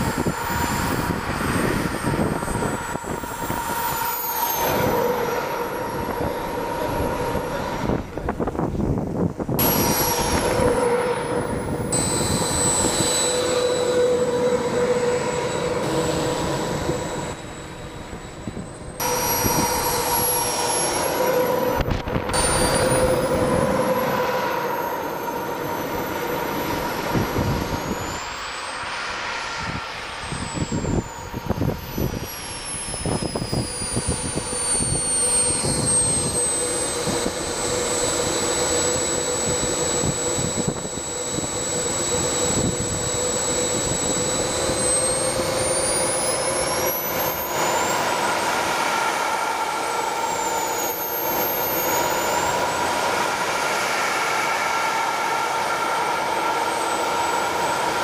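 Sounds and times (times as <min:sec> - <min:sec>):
model jet turbine whine: 0:00.0 - 0:58.0
quadcopter drone humming: 0:00.0 - 0:58.0.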